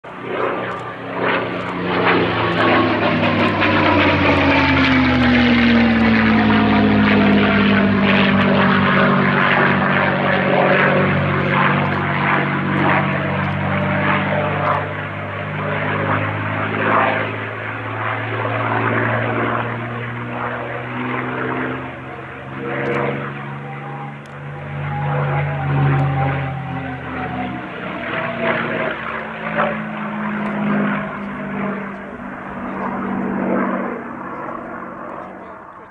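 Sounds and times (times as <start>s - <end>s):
propeller aircraft engine running: 0.0s - 35.9s.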